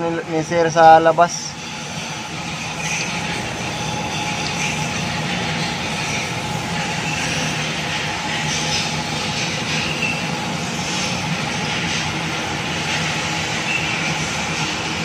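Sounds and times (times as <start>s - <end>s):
low mechanical hum with hiss: 0.0s - 15.0s.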